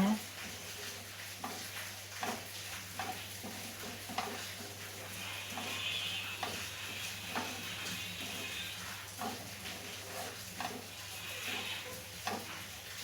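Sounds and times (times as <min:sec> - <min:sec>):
low sizzle: 0:00.0 - 0:13.0.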